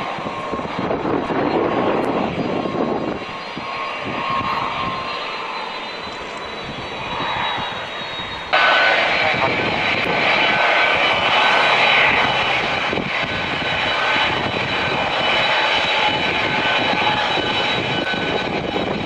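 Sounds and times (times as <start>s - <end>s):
jet engines roaring: 0.0s - 19.0s
faint high whine: 2.4s - 19.0s.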